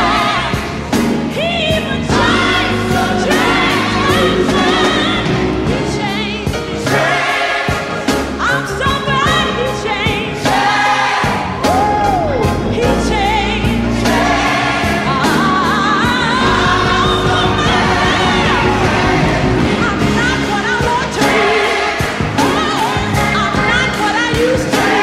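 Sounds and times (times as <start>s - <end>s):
bass and drums: 0.0s - 25.0s
gospel choir singing: 0.0s - 25.0s
lead singer with vibrato: 1.3s - 25.0s.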